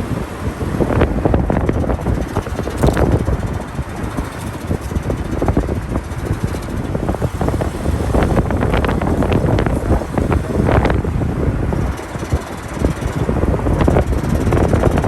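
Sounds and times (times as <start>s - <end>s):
car grinding and rattling: 0.0s - 15.0s.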